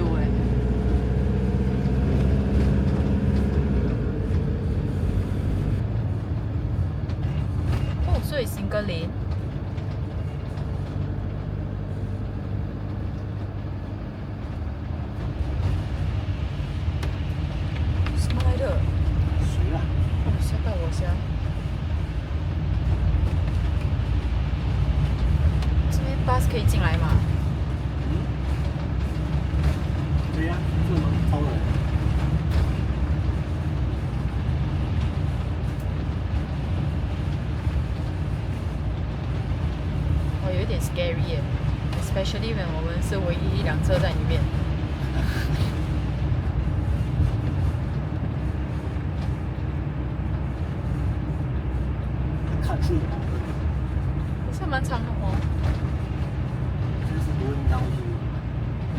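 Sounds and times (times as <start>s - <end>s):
vehicle engine and road rumble: 0.0s - 58.9s.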